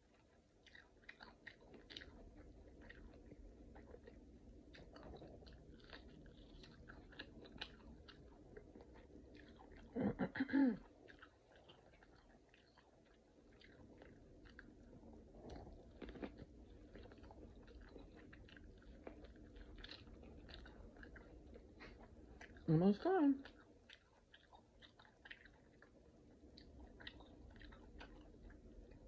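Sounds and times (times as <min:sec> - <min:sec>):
chewing corn crunches: 0:00.0 - 0:29.0.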